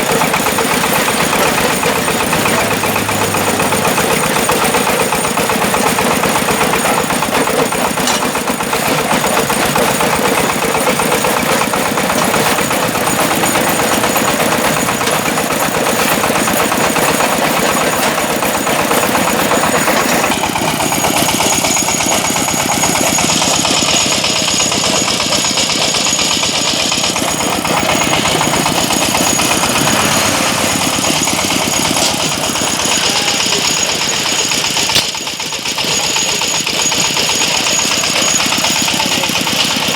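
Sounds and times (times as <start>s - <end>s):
brick-breaking machine engine: 0.0s - 39.9s
mechanical clatter: 0.0s - 39.9s.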